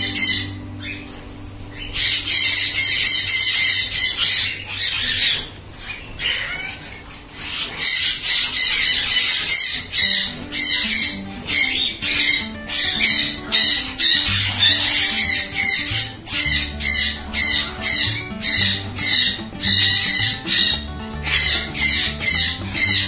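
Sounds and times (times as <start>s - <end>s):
faint background music: 0.0s - 23.0s
parrots squawking: 0.0s - 23.0s.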